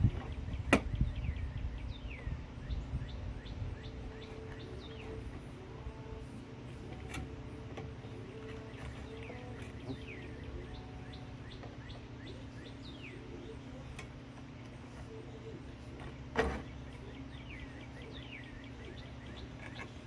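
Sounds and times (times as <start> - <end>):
low background hum: 0.0 - 20.0
small birds chirping: 0.0 - 20.0.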